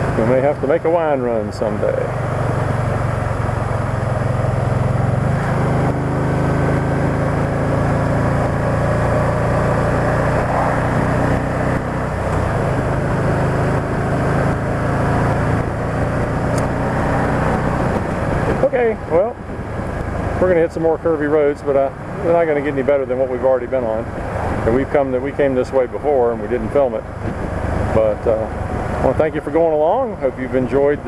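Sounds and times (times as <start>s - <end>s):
motorcycle engine drone: 0.0s - 31.0s
wind and road noise: 0.0s - 31.0s.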